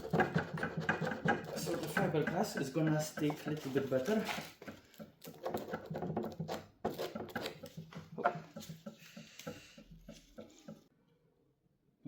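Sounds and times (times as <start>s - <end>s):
plastic scratching and clicking: 0.0s - 10.8s.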